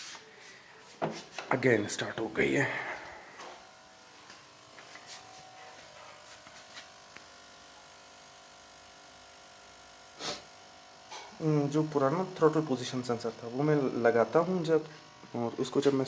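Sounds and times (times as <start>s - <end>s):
faint electrical buzz: 0.0s - 16.0s.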